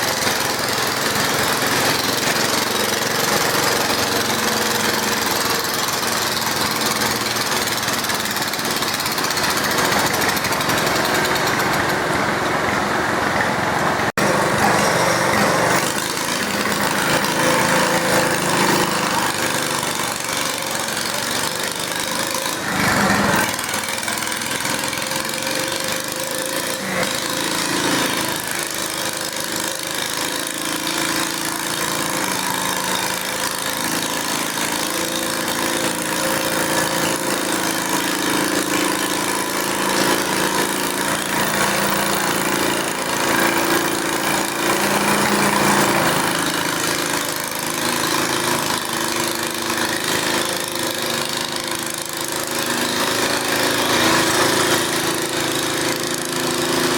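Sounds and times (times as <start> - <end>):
tractor engine under load: 0.0 - 56.9.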